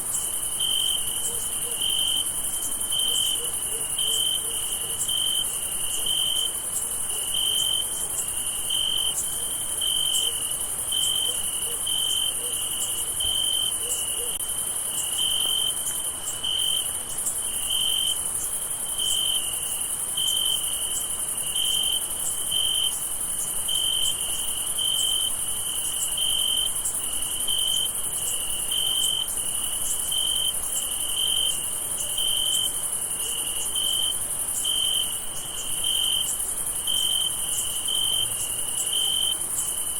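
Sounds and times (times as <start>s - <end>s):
cricket chirping: 0.0s - 39.9s
high-pitched insect chorus: 0.0s - 39.9s.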